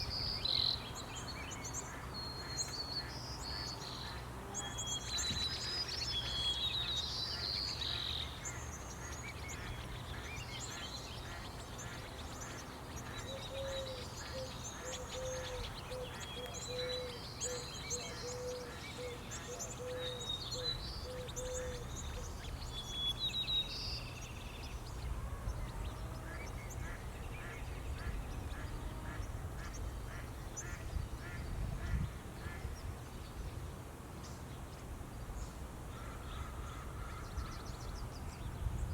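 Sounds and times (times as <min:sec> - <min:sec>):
small songbirds chirping: 0:00.0 - 0:35.6.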